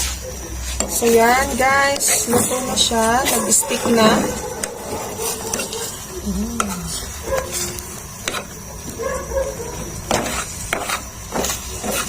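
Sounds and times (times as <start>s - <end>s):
stirring sticky sauce in pan: 0.0s - 9.0s, 10.0s - 12.0s.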